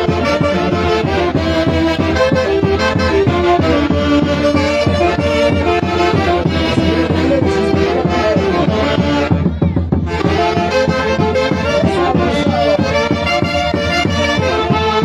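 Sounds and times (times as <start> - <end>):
festive band music with wind instruments: 0.0 - 15.0.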